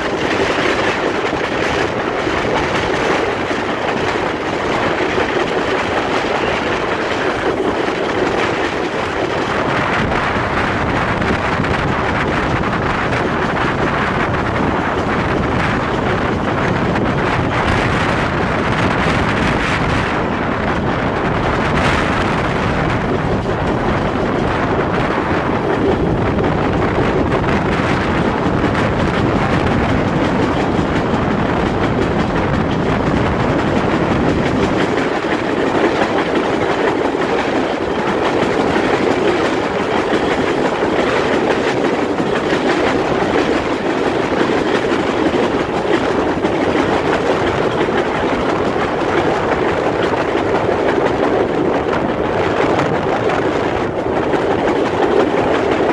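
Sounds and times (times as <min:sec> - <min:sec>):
clickety-clack over rail joints: 0:00.0 - 0:55.9
train wheels rumbling on rail: 0:00.0 - 0:55.9.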